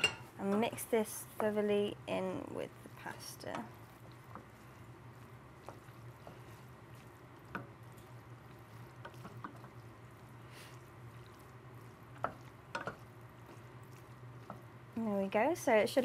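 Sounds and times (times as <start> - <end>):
steady low hum: 0.0 - 16.0
wet squishing of stirred food: 0.6 - 16.0.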